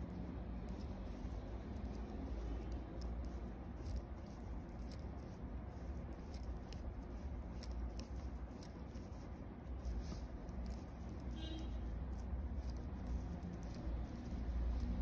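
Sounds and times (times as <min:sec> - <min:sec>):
knitting needles clicking: 0:00.0 - 0:15.0.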